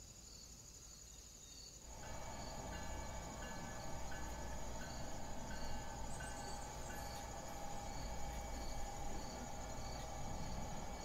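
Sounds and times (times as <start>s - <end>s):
model train hum: 1.8s - 11.0s.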